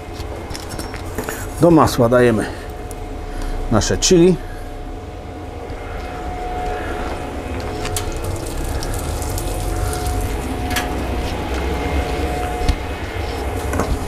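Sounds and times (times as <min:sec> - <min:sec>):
fan whine: 0:00.0 - 0:14.0
grill low hum: 0:00.0 - 0:14.0.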